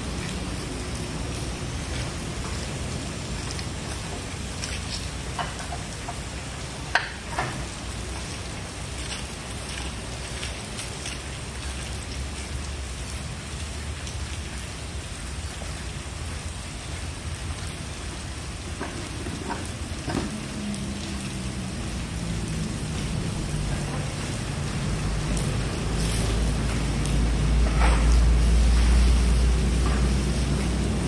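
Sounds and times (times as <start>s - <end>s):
rain falling on foliage: 0.0s - 31.0s.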